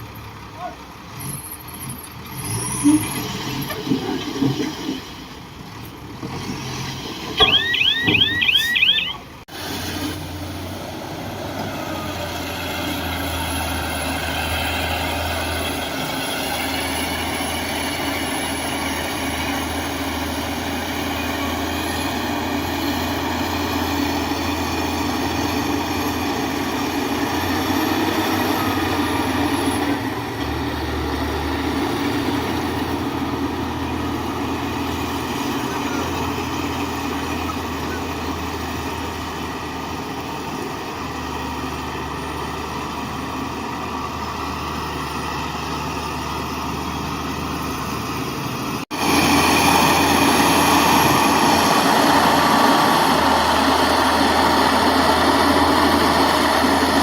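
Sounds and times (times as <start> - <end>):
heavy diesel engine drone: 7.4 - 57.0.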